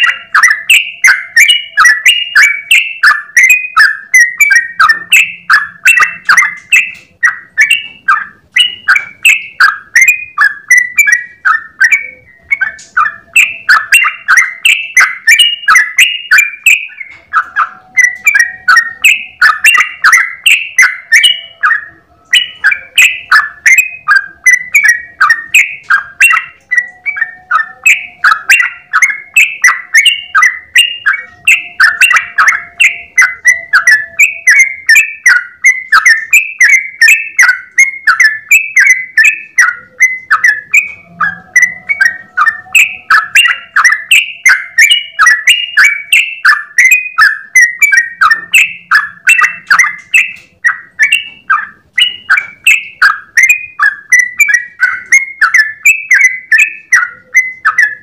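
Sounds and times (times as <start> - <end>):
bird singing bubbling notes: 0.0 - 58.0.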